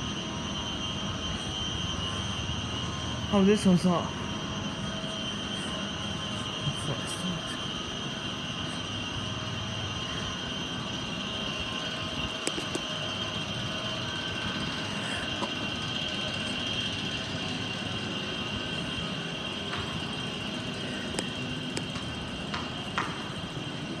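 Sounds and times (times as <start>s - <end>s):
constant high whine: 0.0s - 24.0s
train mechanical rumble: 0.0s - 24.0s.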